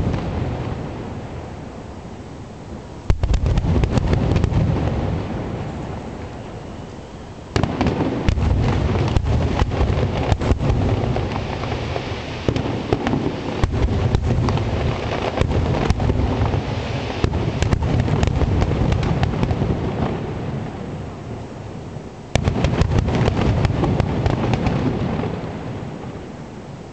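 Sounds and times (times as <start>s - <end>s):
fireworks cracking reports: 0.0s - 2.0s, 2.7s - 26.4s.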